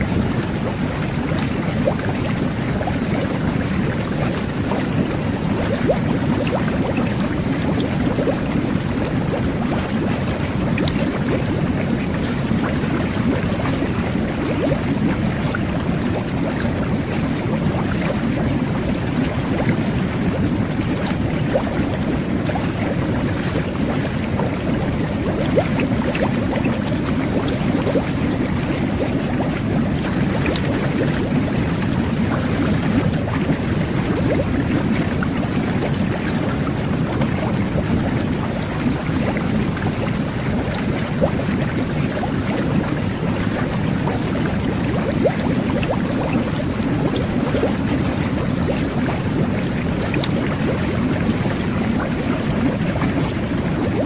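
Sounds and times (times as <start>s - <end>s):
jet bath bubbling water: 0.0s - 54.0s.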